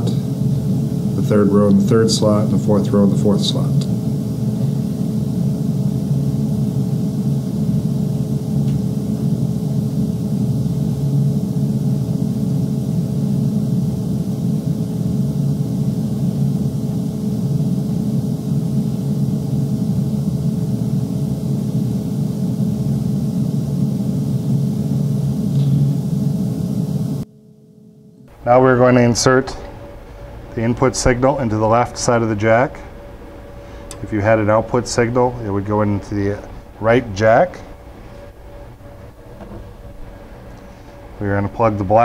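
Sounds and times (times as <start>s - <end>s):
mechanical hum with tones: 0.0s - 42.0s.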